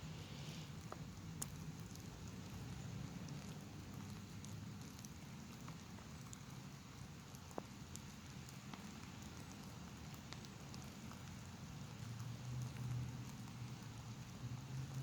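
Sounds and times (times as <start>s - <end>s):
light rain drops ticking: 0.0s - 15.0s.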